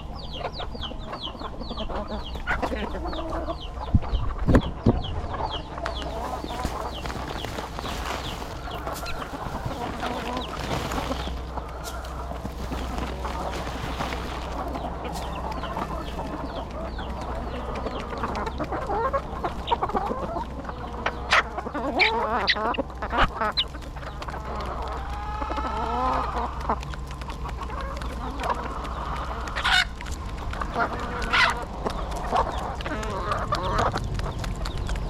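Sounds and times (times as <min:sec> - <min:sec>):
chickens clucking and squawking: 0:00.0 - 0:35.0
steady low hum: 0:00.0 - 0:35.0.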